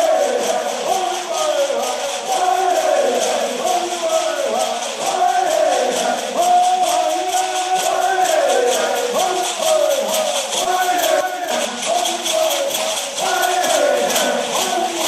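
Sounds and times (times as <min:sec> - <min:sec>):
group chanting and singing: 0:00.0 - 0:15.0
shaker rattles beat: 0:00.0 - 0:15.0.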